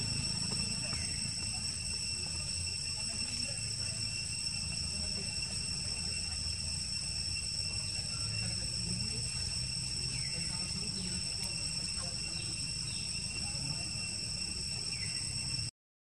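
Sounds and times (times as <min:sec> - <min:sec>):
insects trilling: 0:00.0 - 0:15.7.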